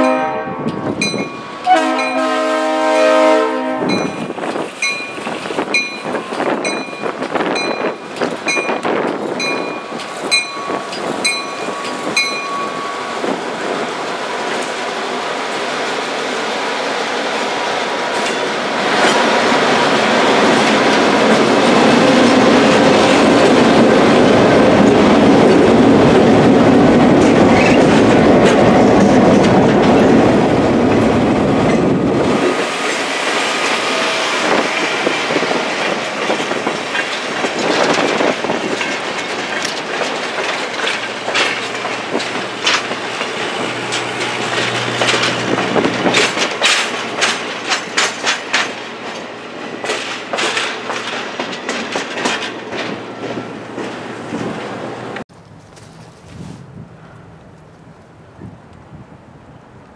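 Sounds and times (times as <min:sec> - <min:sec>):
diesel locomotive engines: 0:00.0 - 0:59.9
train wheels clacking on rails: 0:03.9 - 0:55.2.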